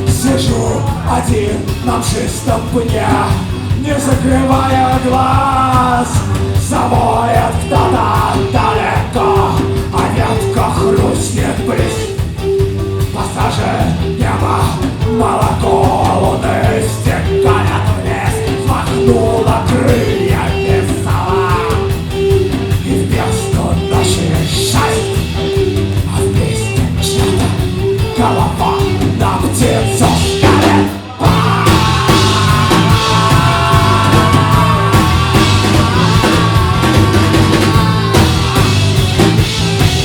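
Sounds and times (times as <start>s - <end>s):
drums beating: 0.0s - 40.0s
live rock band playing: 0.0s - 40.0s.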